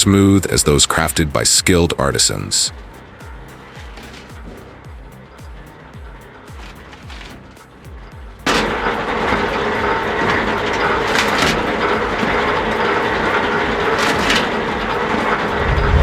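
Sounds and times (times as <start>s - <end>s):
wood-processing machine clatter: 0.0s - 16.0s
loud machine hits: 2.7s - 16.0s.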